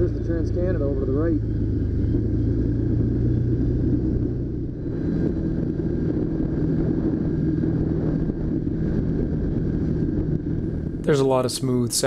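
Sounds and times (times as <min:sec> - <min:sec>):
tyre and road rumble: 0:00.0 - 0:12.0
vehicle engine hum: 0:00.0 - 0:12.0.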